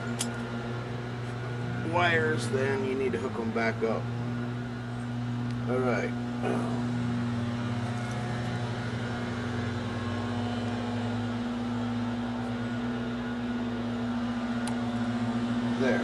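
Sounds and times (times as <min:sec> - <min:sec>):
leaf blower engines droning: 0:00.0 - 0:16.0.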